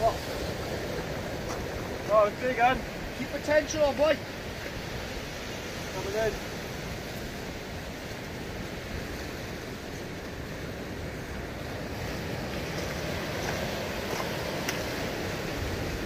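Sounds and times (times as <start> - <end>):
surf washing up a beach: 0.0 - 16.0.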